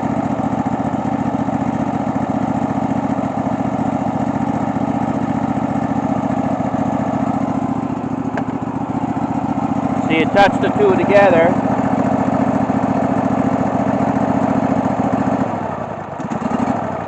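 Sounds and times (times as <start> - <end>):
riding mower engine idling: 0.0 - 17.0.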